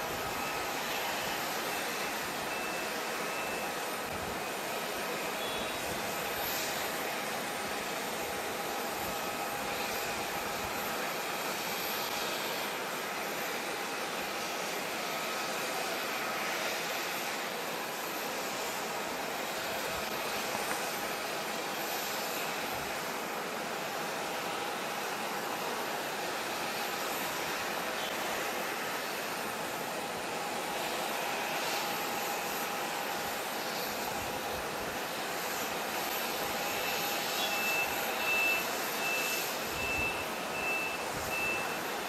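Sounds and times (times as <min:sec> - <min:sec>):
jet engines hissing and whining: 0:00.0 - 0:42.0.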